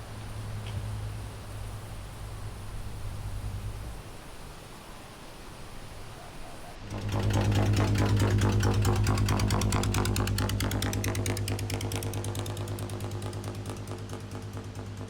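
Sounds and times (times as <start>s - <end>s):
small engine running: 0.0s - 4.2s, 6.7s - 15.0s.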